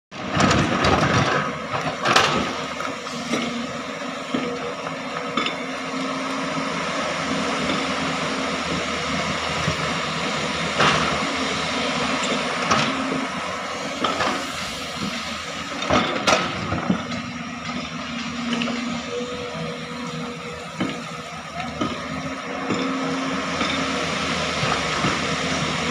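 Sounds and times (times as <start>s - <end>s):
excavator diesel engine running: 0.1s - 25.9s.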